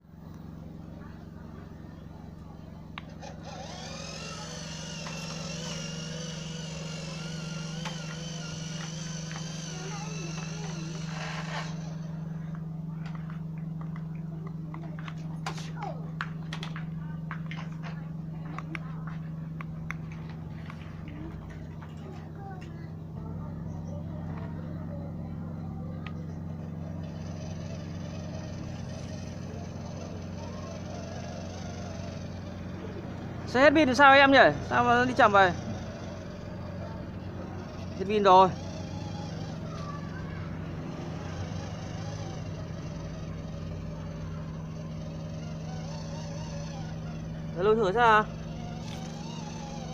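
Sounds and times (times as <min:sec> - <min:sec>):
electric motor humming: 0:00.0 - 0:49.9
high motor whine: 0:00.0 - 0:49.9.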